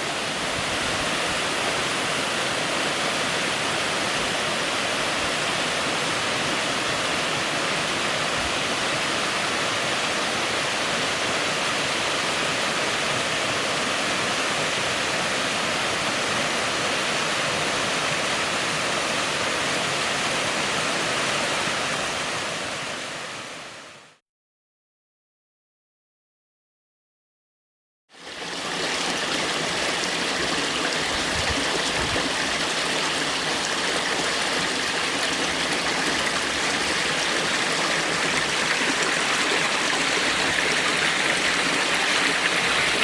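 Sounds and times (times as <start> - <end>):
water rushing and splashing: 0.0 - 23.8, 28.1 - 43.0.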